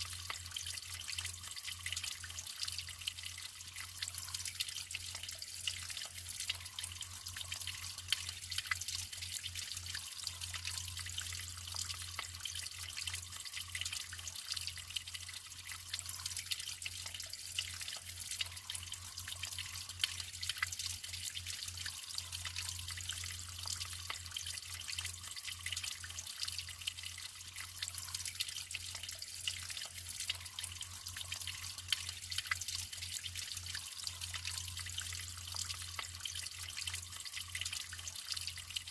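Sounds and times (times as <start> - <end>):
small drips and plops: 0.0 - 38.9
water trickling and splashing: 0.0 - 38.9.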